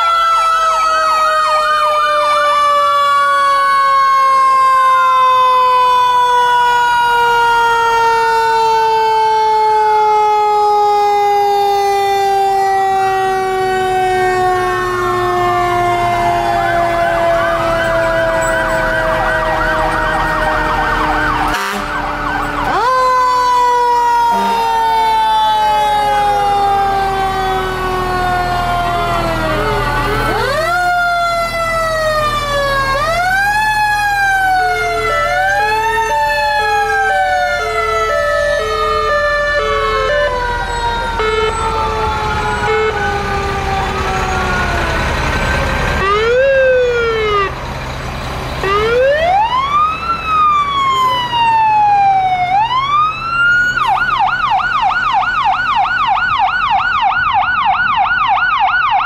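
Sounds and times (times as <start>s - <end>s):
siren fast yelp: 0.0s - 47.6s, 48.6s - 59.0s
two-note hi-lo siren: 0.0s - 47.6s, 48.6s - 59.0s
fire truck sirens wailing: 0.0s - 59.0s
truck engines running: 0.0s - 59.0s.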